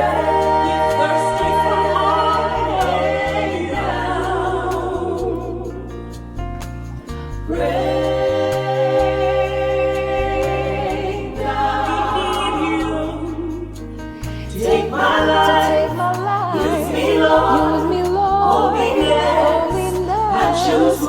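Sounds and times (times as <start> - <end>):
singers with wavering notes: 0.0 - 6.2, 7.2 - 21.0
bass guitar low notes: 0.0 - 21.0.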